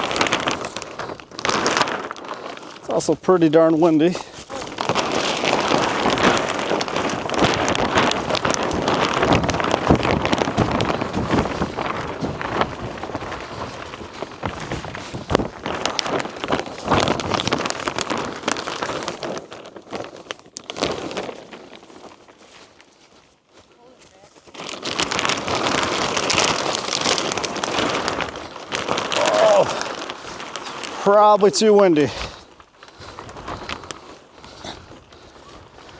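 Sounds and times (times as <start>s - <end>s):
plastic sheeting flapping in wind: 0.0s - 35.9s.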